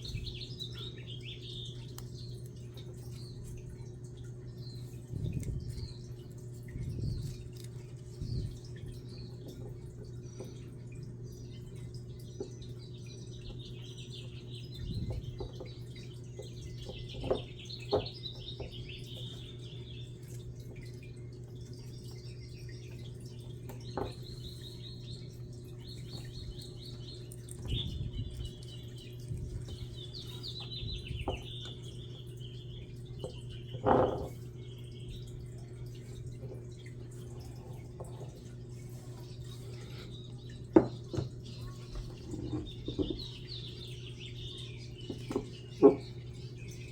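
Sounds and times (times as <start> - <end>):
small birds chirping: 0.0 - 46.9
steady low hum: 0.0 - 46.9.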